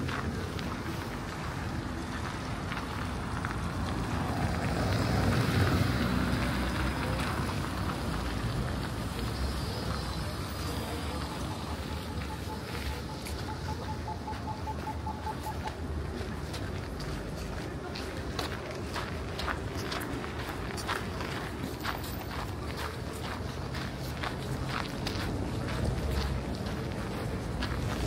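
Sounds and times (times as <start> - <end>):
outdoor ambient rush: 0.0 - 28.0.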